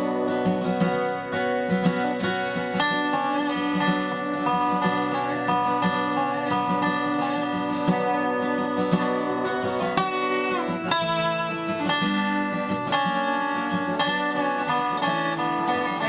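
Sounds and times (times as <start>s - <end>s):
acoustic guitar: 0.0s - 16.0s
slide resonator guitar: 0.0s - 16.0s.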